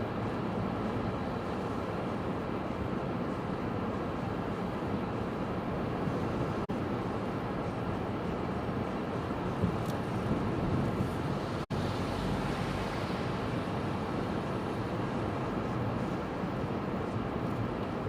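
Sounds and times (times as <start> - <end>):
storm wind: 0.0 - 18.0.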